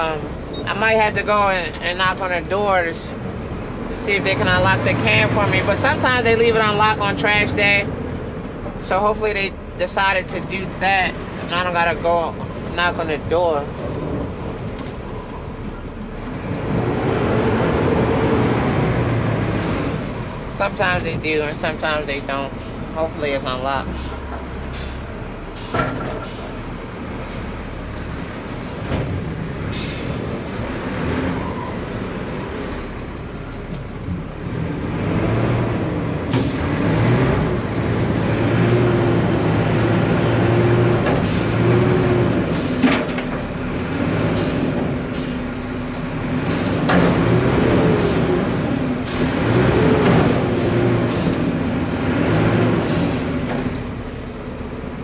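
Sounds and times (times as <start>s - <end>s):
garbage truck engine revving: 0.0s - 55.0s.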